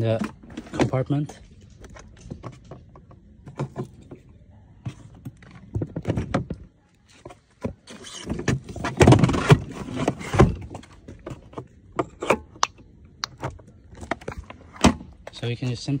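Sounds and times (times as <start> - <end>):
plastic case scraping and bumping: 0.0 - 12.6, 13.4 - 15.7.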